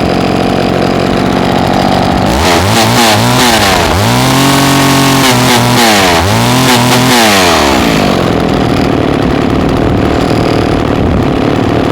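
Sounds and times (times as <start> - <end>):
chainsaw engine revving: 0.0 - 11.9.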